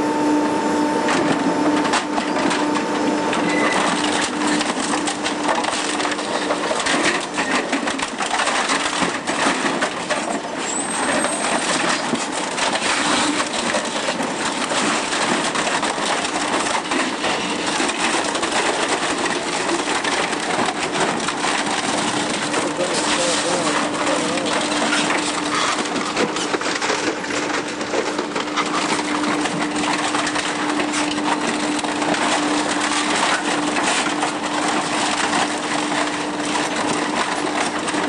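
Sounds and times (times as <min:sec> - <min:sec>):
steady machine hum: 0:00.0 - 0:38.0
shredder crunching and cracking: 0:00.4 - 0:38.0.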